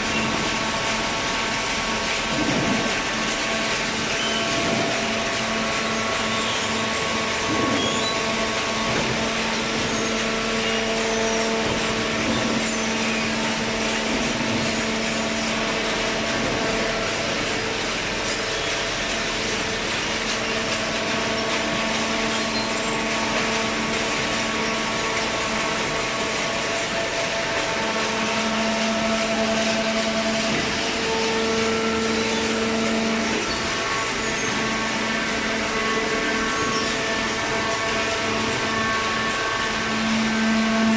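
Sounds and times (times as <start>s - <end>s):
baler motor and pump hum: 0.0s - 40.9s.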